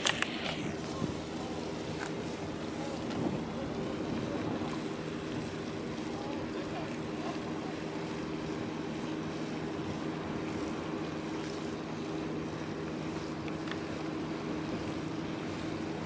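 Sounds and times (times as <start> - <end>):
boat engine droning: 0.0 - 16.0
water lapping: 0.0 - 16.0
wind: 0.0 - 16.0.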